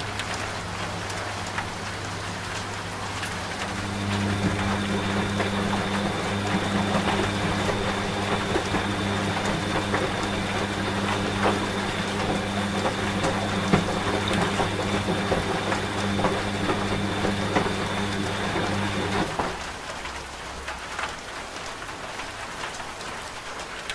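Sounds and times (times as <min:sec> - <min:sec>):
washing machine humming: 0:00.0 - 0:20.0
rain pattering: 0:00.0 - 0:23.9.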